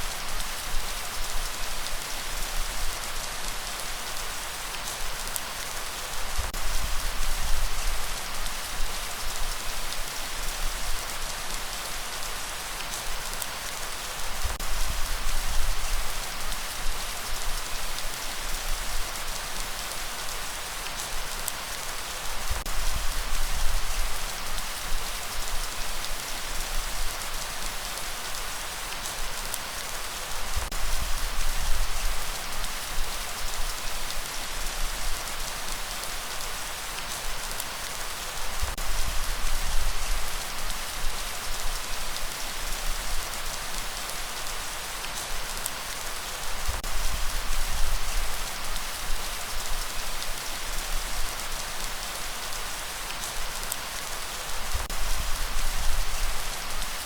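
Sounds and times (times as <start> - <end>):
light rain falling: 0.0 - 57.0.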